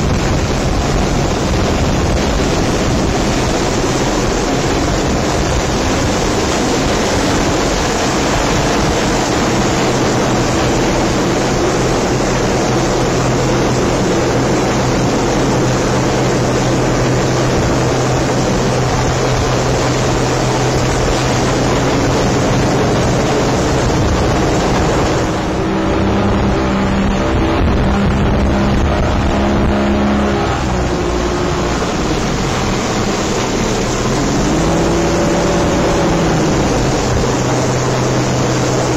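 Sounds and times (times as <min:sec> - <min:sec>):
low engine hum: 0:00.0 - 0:38.9
wind and spray rushing: 0:00.0 - 0:38.9.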